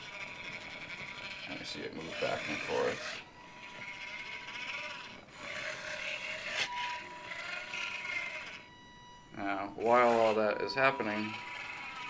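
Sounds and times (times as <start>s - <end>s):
motor driving plastic gears whirring: 0.0s - 8.7s, 11.0s - 12.0s.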